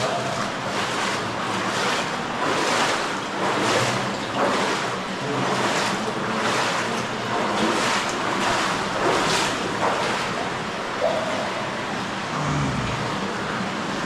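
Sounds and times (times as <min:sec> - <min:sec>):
water rushing and splashing: 0:00.0 - 0:14.0.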